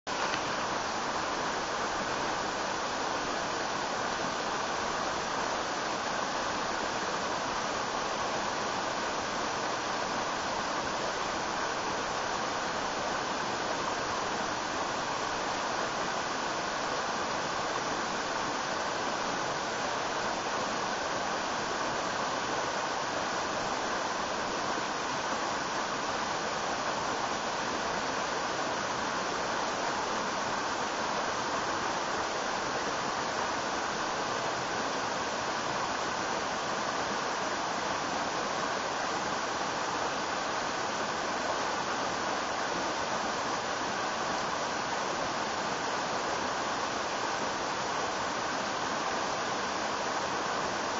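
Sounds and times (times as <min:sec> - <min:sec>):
water rushing over rocks: 0:00.1 - 0:50.9.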